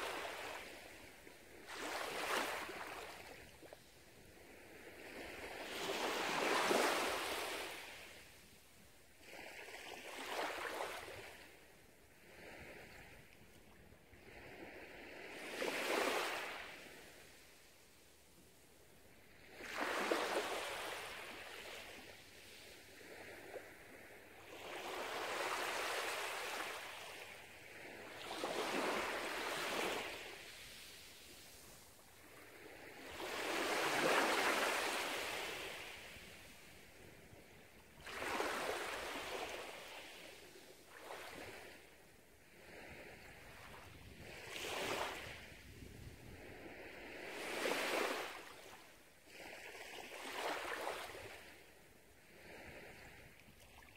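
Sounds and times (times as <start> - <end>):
gentle waves washing on sand: 0.0 - 53.9.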